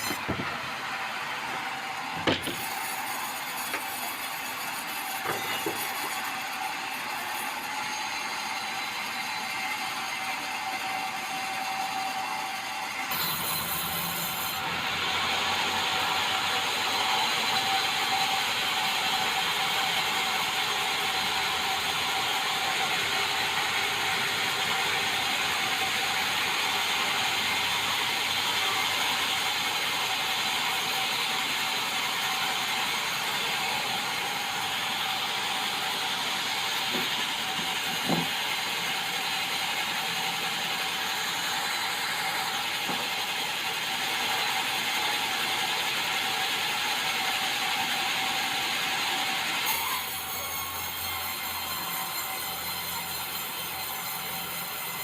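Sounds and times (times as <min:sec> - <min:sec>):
sawmill saw cutting log: 0:00.0 - 0:55.0.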